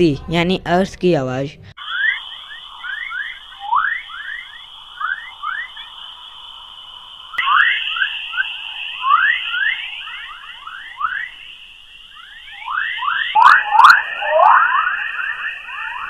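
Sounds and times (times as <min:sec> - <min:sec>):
high tone with rising chirps: 0:01.8 - 0:16.0.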